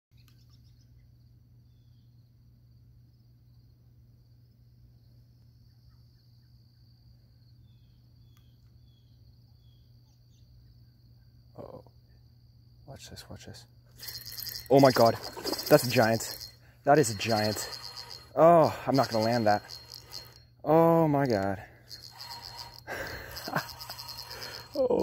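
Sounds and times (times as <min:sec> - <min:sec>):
high-pitched insect trill: 0:05.0 - 0:25.0.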